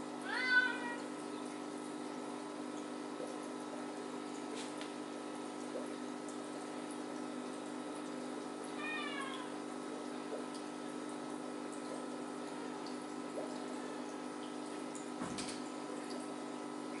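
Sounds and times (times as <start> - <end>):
aquarium equipment humming: 0.0 - 17.0
water noise: 0.0 - 17.0.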